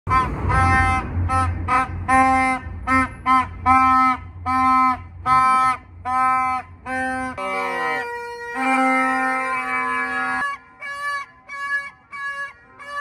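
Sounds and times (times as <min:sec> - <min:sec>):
plastic stadium horn blasts: 0:00.1 - 0:13.0.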